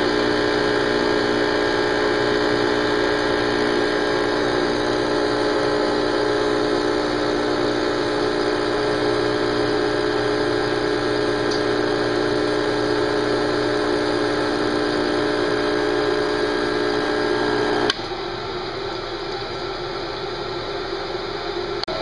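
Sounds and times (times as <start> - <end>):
espresso machine pump humming: 0.0 - 22.0.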